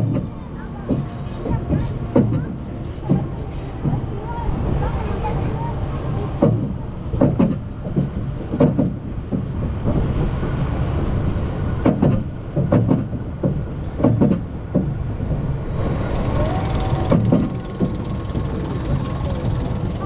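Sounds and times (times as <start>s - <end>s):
knocks and clacks: 0.0s - 4.1s, 6.4s - 10.7s, 11.8s - 20.0s
roller coaster rumbling on track: 0.0s - 20.0s.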